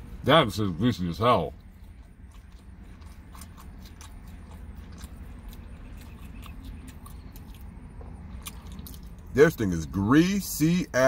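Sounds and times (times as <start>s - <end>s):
man chewing with wet clicks: 0.0s - 10.8s
steady low hum: 0.0s - 11.0s.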